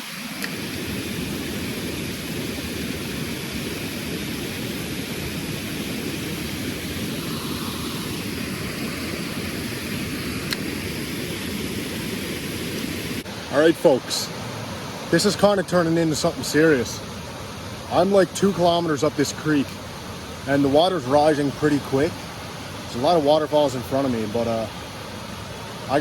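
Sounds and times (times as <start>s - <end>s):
creek and waterfalls rushing: 0.0s - 26.0s.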